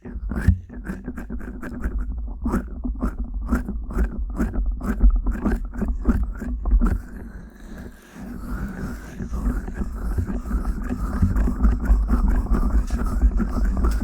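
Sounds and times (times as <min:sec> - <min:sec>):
fingers scratching microphone: 0:00.1 - 0:07.3, 0:08.3 - 0:14.0.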